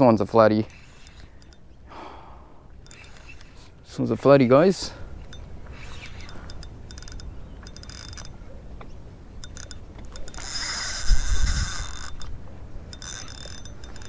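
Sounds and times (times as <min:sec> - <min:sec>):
fishing reel whirring and clicking: 0:00.0 - 0:03.9, 0:05.0 - 0:08.5, 0:09.2 - 0:14.0.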